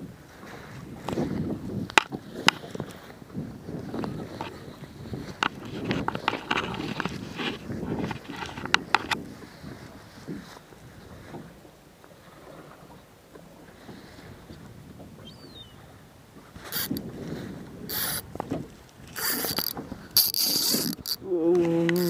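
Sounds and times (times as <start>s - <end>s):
water lapping against boat hull: 0.0s - 22.0s.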